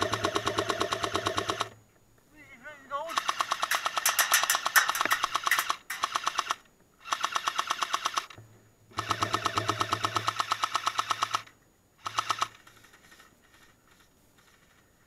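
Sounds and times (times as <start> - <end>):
airsoft machine gun bursts: 0.0 - 1.8, 3.1 - 14.8.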